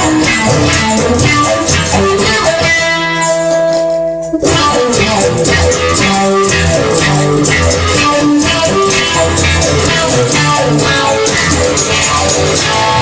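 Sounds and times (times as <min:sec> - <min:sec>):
guitar instrumental music with bass: 0:00.0 - 0:13.0.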